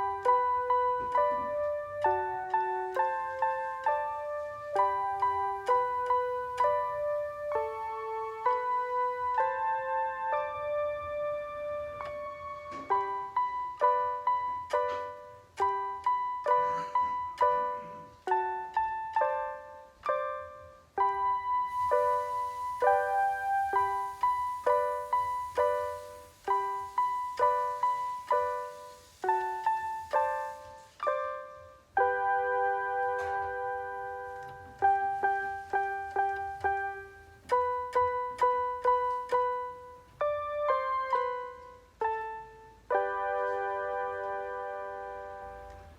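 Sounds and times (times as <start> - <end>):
simple piano piece: 0.0 - 45.9.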